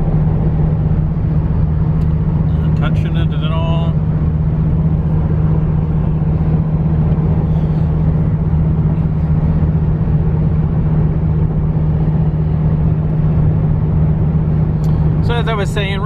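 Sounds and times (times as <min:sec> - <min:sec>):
car engine droning: 0:00.0 - 0:16.0
tyre and road noise: 0:00.0 - 0:16.0.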